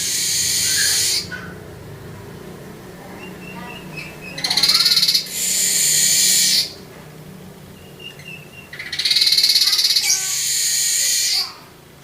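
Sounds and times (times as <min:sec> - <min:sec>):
bird singing buzzy song: 0:00.0 - 0:11.7.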